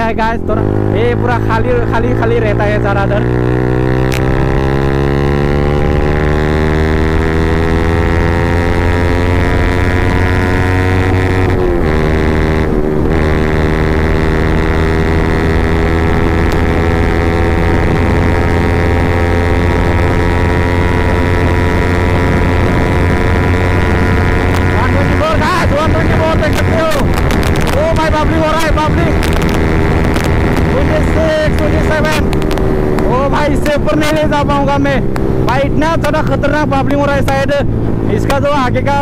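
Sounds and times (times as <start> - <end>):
motorcycle engine running loud: 0.0 - 39.0.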